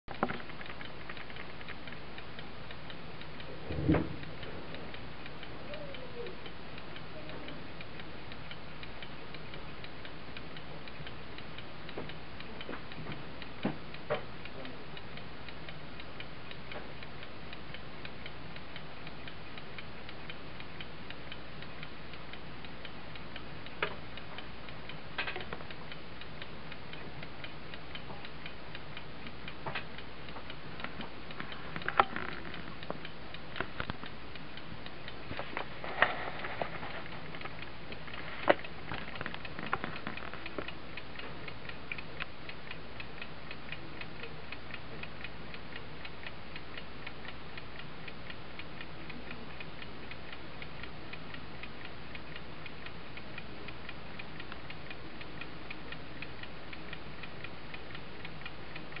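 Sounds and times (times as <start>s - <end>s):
clock ticking: 0.1s - 59.0s
sharp clock clicks: 0.1s - 59.0s.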